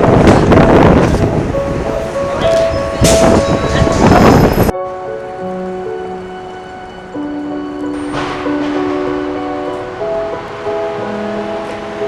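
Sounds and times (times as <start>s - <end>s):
music of long held notes: 1.1s - 12.0s.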